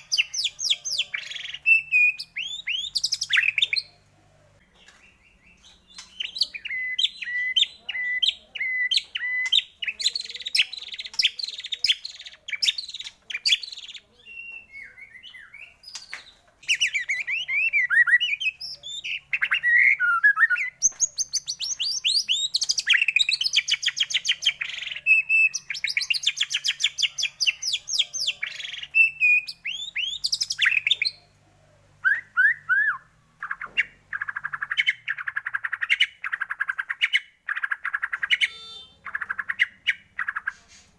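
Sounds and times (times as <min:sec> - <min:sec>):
songbird singing varied song: 0:00.0 - 0:40.6.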